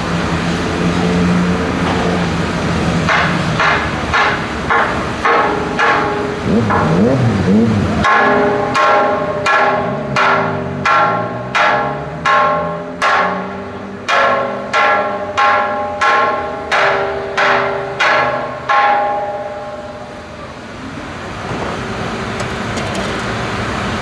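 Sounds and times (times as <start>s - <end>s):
ringing metallic clangs: 0.5s - 20.6s.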